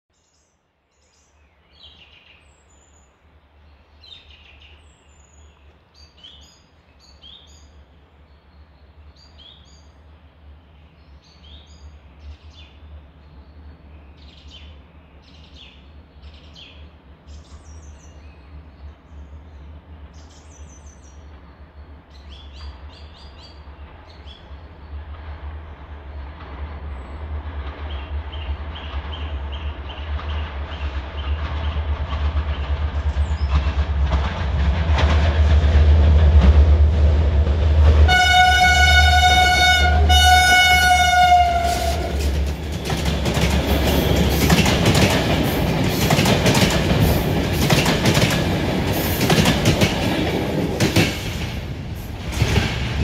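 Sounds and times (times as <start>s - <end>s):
passenger train rumbling: 1.6s - 53.0s.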